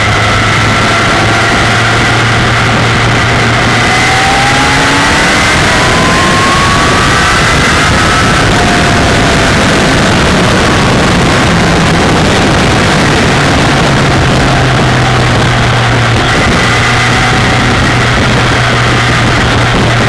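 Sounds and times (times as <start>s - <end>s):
motorcycle engine drone: 0.0s - 20.0s
wind rush over microphone: 0.0s - 20.0s.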